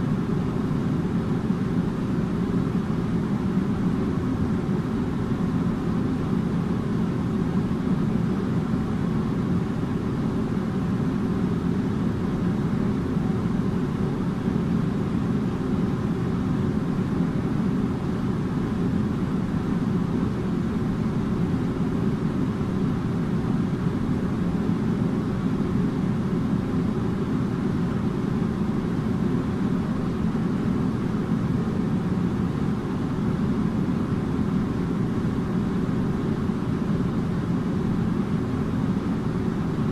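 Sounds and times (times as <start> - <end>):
air conditioner whooshing drone: 0.0 - 39.9
faint steady hum: 0.0 - 39.9.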